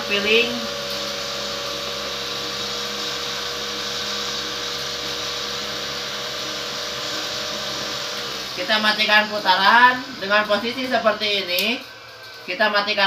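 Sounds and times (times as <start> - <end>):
cotton candy machine whirring: 0.0 - 13.0.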